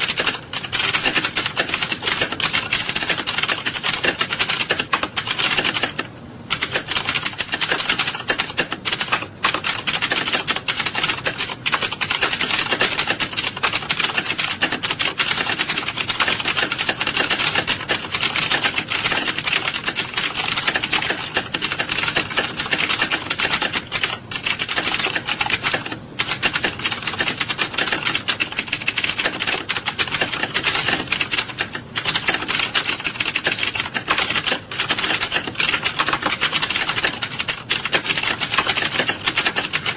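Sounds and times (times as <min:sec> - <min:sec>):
many people typing on keyboards: 0:00.0 - 0:39.9.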